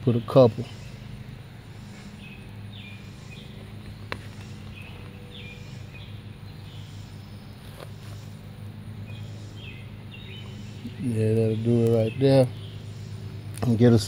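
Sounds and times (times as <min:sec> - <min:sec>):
air conditioner unit humming: 0:00.0 - 0:14.0
bird chirping: 0:00.0 - 0:14.0.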